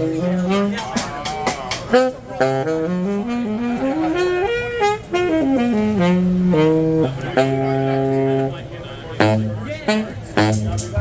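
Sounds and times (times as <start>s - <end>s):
saxophone playing jazz notes: 0.0s - 11.0s.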